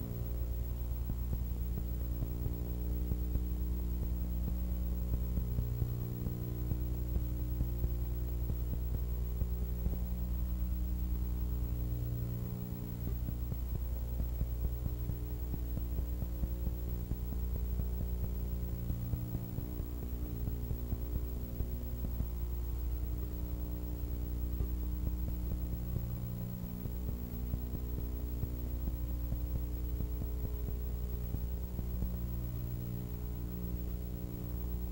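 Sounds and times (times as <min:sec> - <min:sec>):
electrical mains hum: 0:00.0 - 0:34.9
faint crackle: 0:00.0 - 0:34.9.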